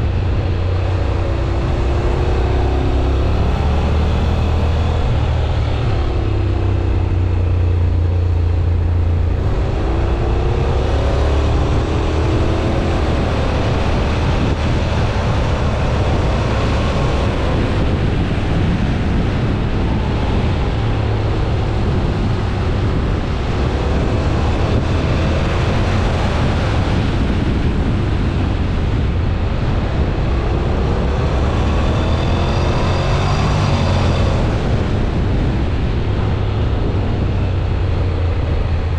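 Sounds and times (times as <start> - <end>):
motorcycle engine running hard: 0.0 - 38.9
wind rumble on microphone: 0.0 - 38.9.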